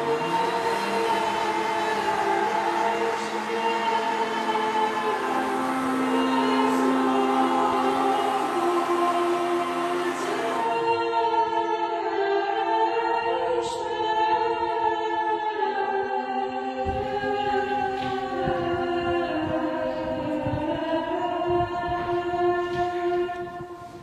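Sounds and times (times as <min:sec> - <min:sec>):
women's choir chanting: 0:00.0 - 0:24.0.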